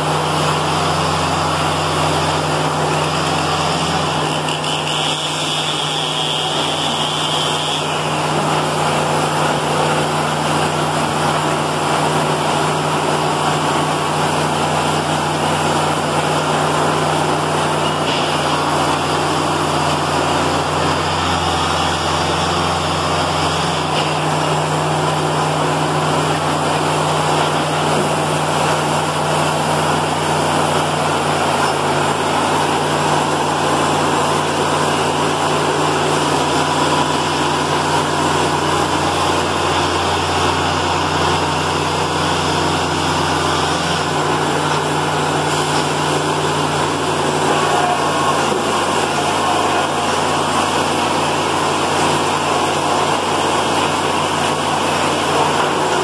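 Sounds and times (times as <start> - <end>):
bandsaw cutting log: 0.0 - 56.0
diesel engine running: 0.0 - 56.0.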